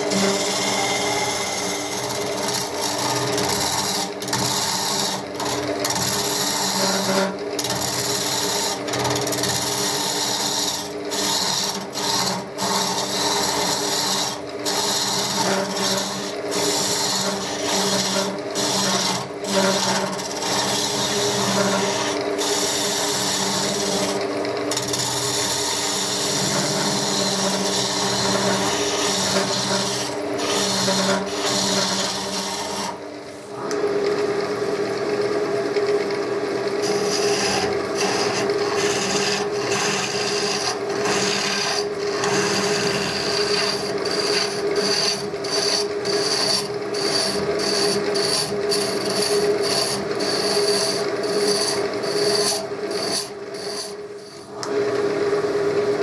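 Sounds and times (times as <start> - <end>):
tool scraping spinning wood: 0.0 - 34.5, 35.8 - 54.9
wood lathe motor hum: 0.0 - 56.0.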